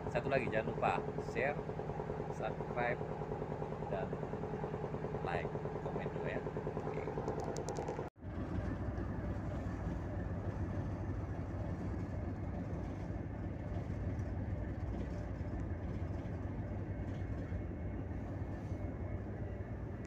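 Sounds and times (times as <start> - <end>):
boat diesel engine rumbling: 0.0 - 20.0.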